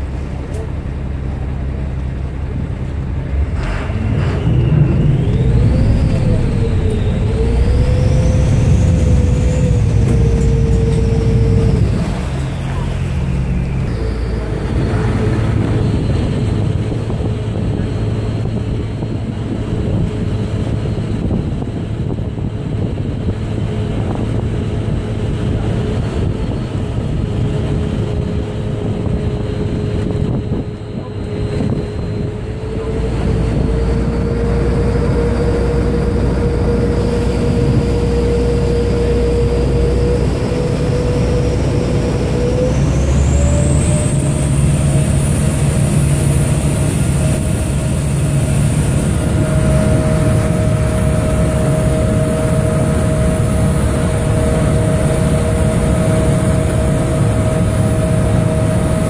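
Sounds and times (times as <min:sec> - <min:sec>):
boat engine drone: 0:00.0 - 0:59.0
engine whine rising: 0:00.0 - 0:59.0.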